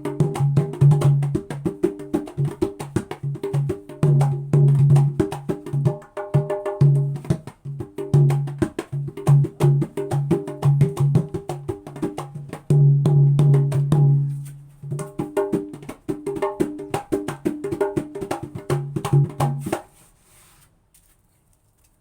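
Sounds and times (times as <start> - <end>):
hand drum slaps and bass strokes: 0.0 - 20.1.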